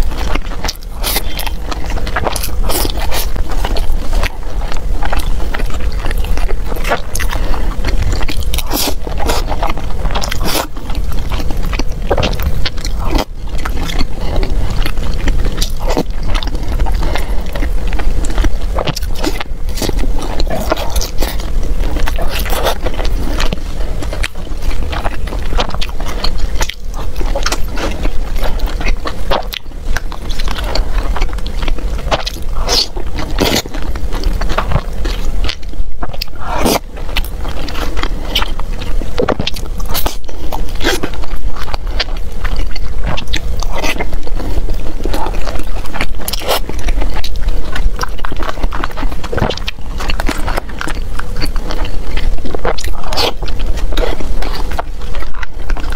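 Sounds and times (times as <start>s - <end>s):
chewing food: 0.0s - 55.9s.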